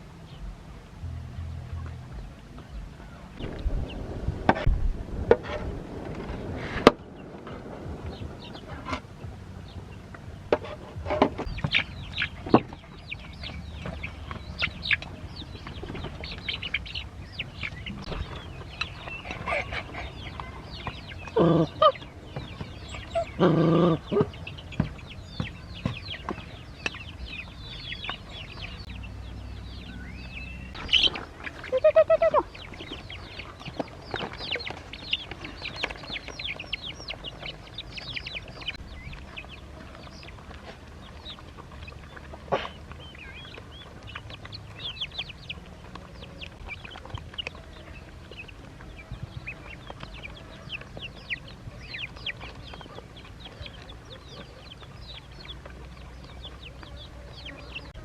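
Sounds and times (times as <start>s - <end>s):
low pulsing bird call: 0.2s - 58.0s
chicks peeping: 1.7s - 58.0s.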